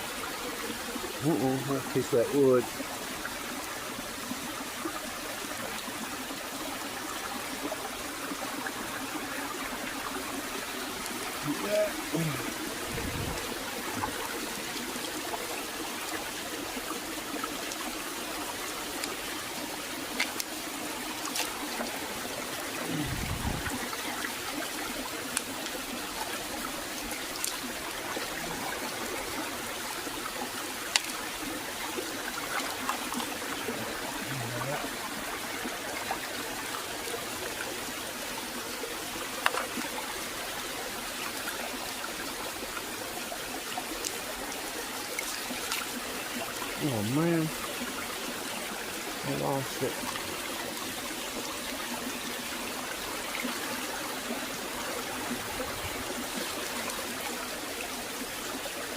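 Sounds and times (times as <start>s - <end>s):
water running over rocks: 0.0s - 58.9s.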